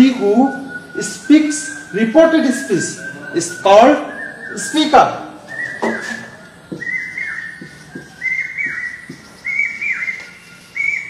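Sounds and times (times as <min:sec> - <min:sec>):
short whistled notes: 0:00.1 - 0:11.0.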